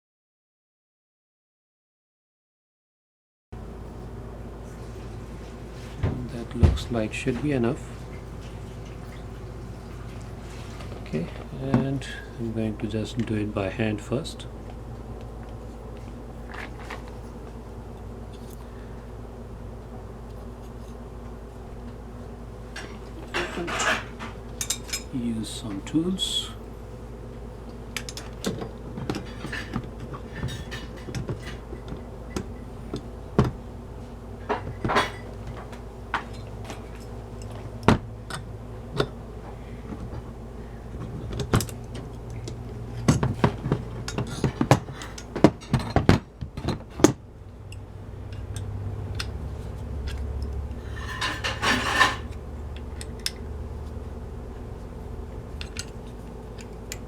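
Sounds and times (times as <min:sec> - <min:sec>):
steady low hum: 0:03.6 - 0:57.0.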